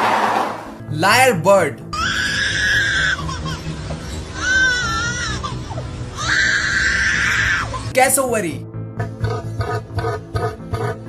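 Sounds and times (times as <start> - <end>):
background music: 0.6 - 11.0.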